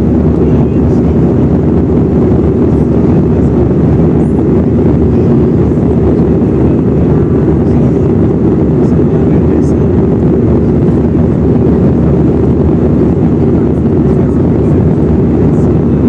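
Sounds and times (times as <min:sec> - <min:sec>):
airplane engine drone in cabin: 0:00.0 - 0:16.0.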